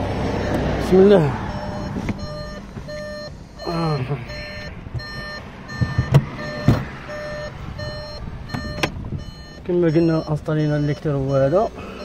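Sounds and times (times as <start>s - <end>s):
car warning chime beeping: 0.3s - 12.0s.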